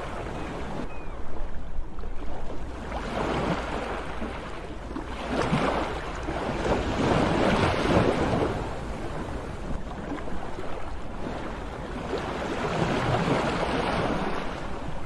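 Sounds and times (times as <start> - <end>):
sea waves surging: 0.0 - 15.0.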